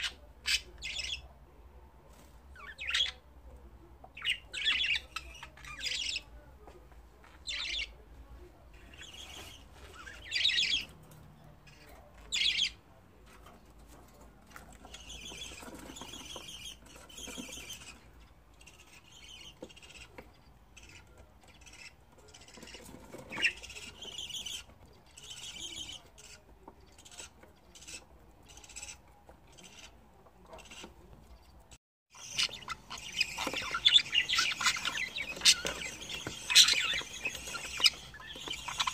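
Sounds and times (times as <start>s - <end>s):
budgerigars chirping: 0.0s - 1.3s, 2.6s - 3.2s, 4.1s - 6.3s, 7.4s - 8.0s, 8.8s - 12.8s, 14.5s - 38.9s.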